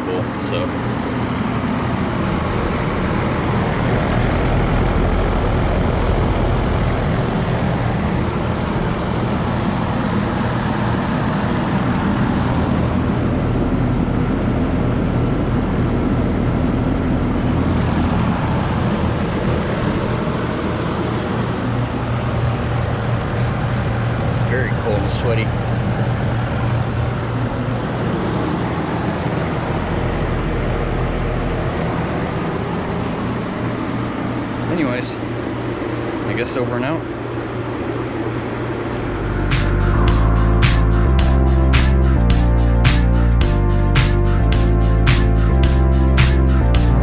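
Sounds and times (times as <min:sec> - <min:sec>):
compressor humming: 0:00.0 - 0:47.0
condenser fan rushing: 0:00.0 - 0:47.0.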